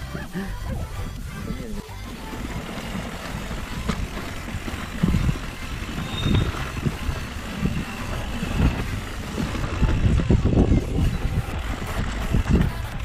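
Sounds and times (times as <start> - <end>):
bike rattling on rough trail: 0.0 - 13.0
wind gusts on microphone: 0.3 - 13.0.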